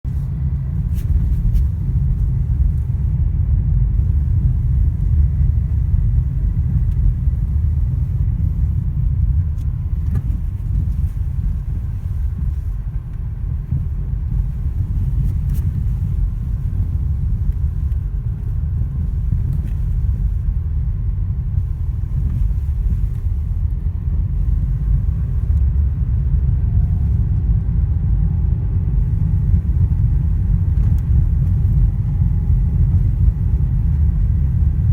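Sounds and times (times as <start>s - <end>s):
car driving rumble: 0.0s - 34.9s.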